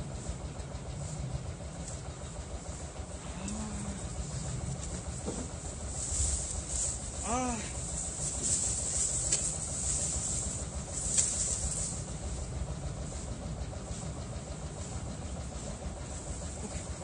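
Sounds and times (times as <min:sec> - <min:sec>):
low rumble with hiss: 0:00.0 - 0:17.0.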